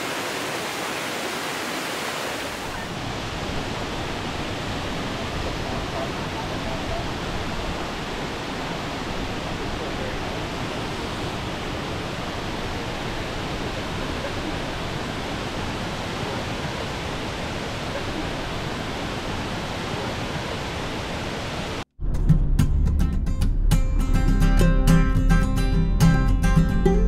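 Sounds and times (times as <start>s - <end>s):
waterfall roar: 0.0s - 21.8s.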